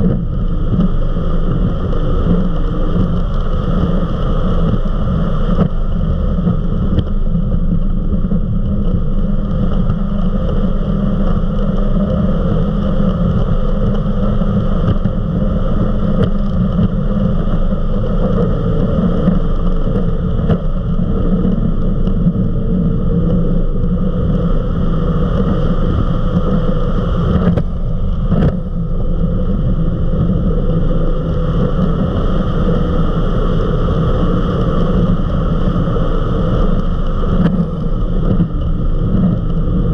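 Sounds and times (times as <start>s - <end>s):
powerboat engine drone: 0.0s - 39.9s
wind noise: 0.0s - 39.9s.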